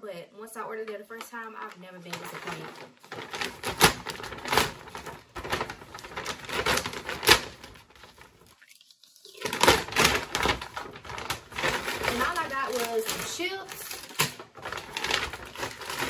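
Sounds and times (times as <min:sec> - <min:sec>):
paper bag tearing and crinkling: 0:02.0 - 0:08.6, 0:09.3 - 0:16.0.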